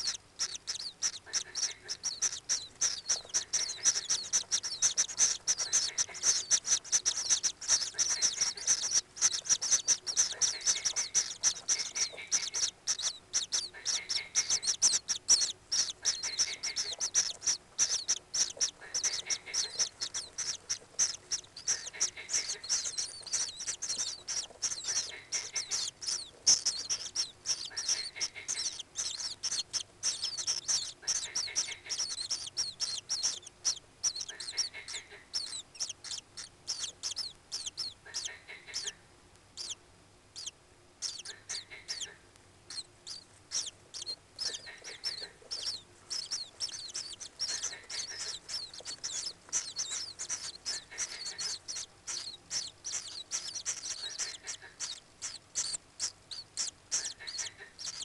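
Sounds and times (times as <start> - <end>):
high-pitched bird chirping: 0.0 - 39.0, 39.6 - 39.8, 40.4 - 58.0.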